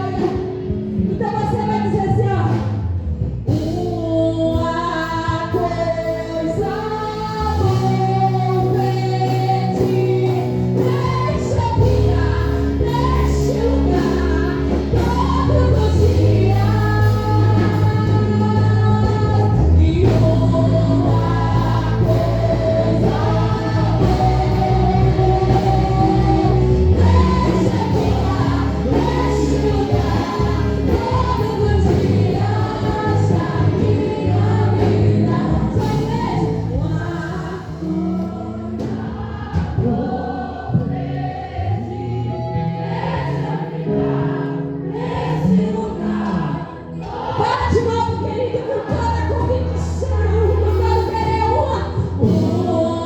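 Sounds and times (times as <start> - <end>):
group singing worship song: 0.0 - 2.0, 3.5 - 53.0.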